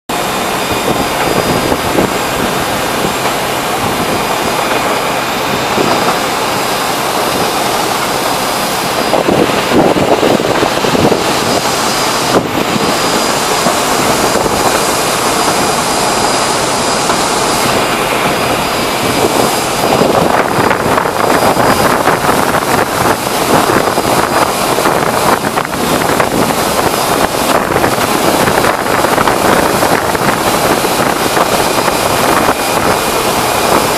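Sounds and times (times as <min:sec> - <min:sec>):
machinery rushing noise: 0:00.1 - 0:33.9.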